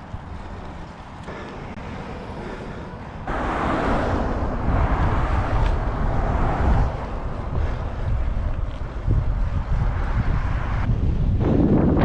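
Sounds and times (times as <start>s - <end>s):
rush of road noise: 0.0s - 12.0s
wind rumbling on microphone: 2.2s - 12.0s.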